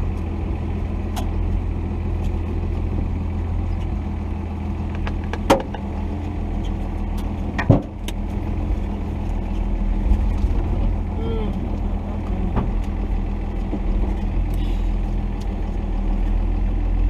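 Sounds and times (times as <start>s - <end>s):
diesel truck engine low drone: 0.0s - 17.0s.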